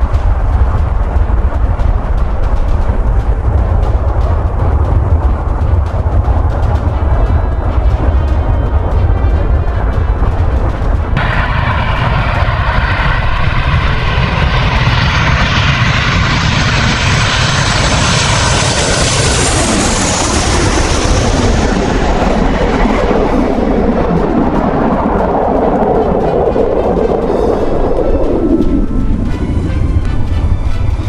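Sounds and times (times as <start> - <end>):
jet fighter engine running: 0.0 - 31.0.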